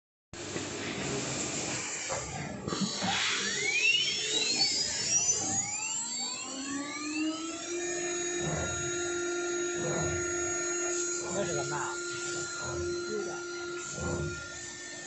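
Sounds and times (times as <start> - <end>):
machine spindle whine: 0.6 - 15.0.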